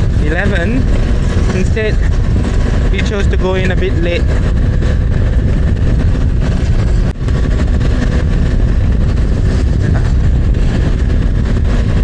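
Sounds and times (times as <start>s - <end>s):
motorcycle engine rumble: 0.0s - 12.0s
wind and road noise: 0.0s - 12.0s.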